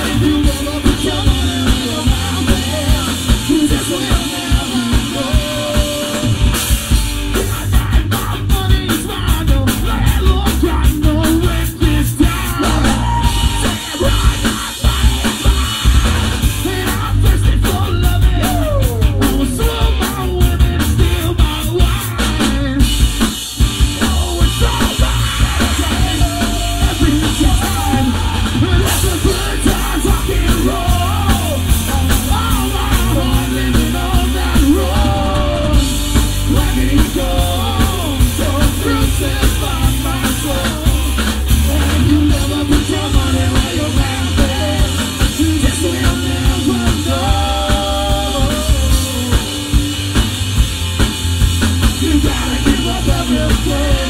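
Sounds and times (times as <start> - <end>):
person singing through pa: 0.0 - 6.7, 7.3 - 23.0, 23.6 - 50.3, 51.9 - 54.0
drum kit: 0.0 - 54.0
electric guitar: 0.0 - 54.0.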